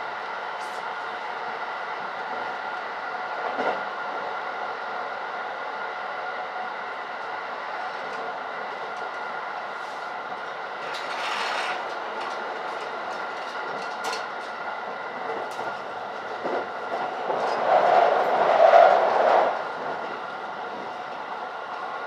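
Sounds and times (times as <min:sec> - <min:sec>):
train rumble and rush: 0:00.0 - 0:22.0.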